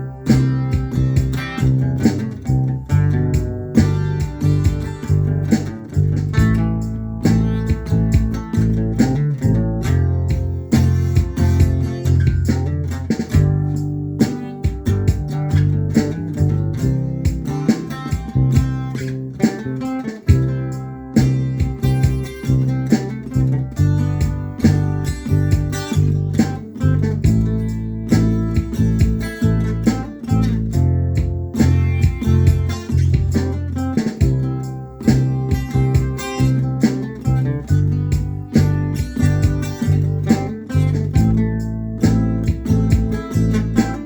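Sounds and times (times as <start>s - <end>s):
guitar playing: 0.0s - 44.0s.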